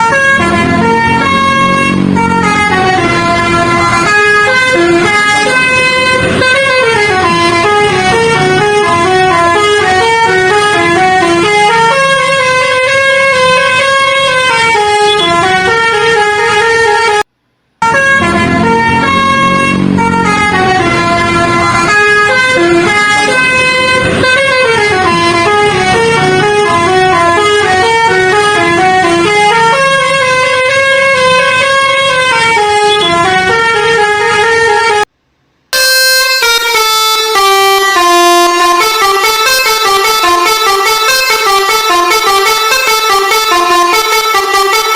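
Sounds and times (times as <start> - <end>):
multi-tone bus horn tune: 0.0 - 44.9.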